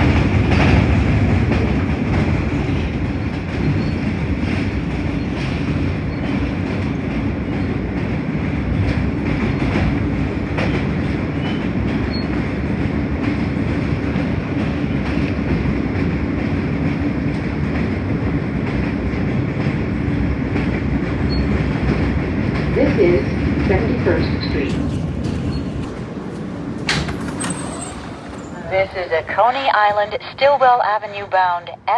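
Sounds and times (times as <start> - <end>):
subway train rumbling: 0.0 - 31.9.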